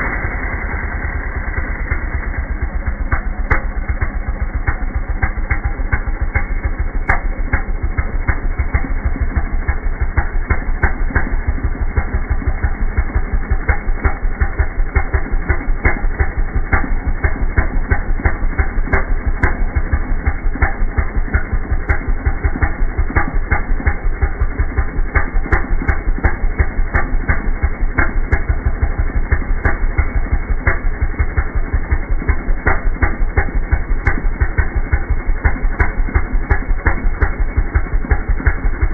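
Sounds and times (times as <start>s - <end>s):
chainsaw engine idling: 0.0s - 38.9s.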